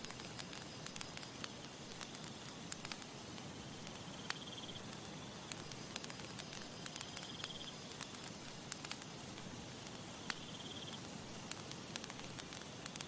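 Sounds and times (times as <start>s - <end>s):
campfire crackling: 0.0s - 13.0s
insect trills: 0.0s - 13.0s.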